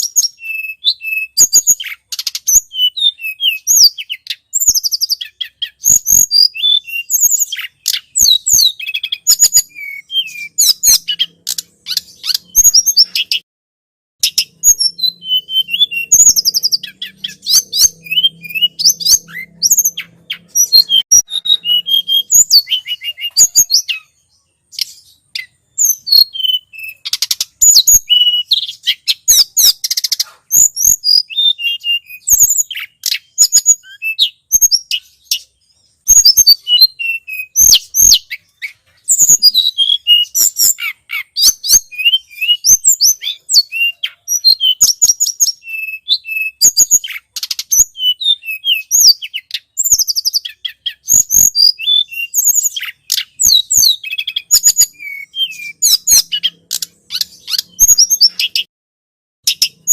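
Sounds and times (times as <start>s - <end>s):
bird chirps and whistles: 0.0s - 13.4s, 14.2s - 58.7s, 59.4s - 59.9s.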